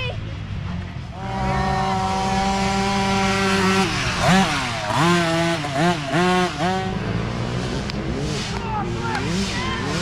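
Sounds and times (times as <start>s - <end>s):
dirt bike engine revving: 0.6s - 10.0s.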